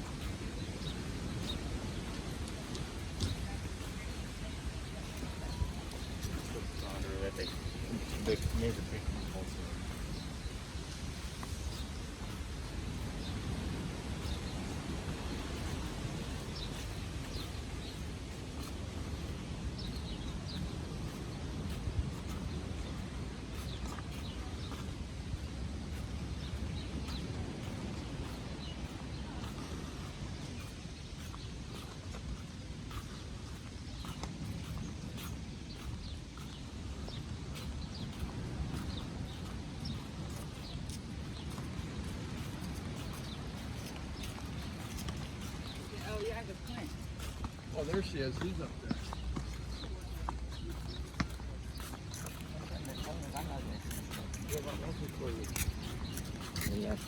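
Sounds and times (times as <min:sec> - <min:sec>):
birds chirping: 0:00.0 - 0:57.0
wind: 0:00.0 - 0:57.0.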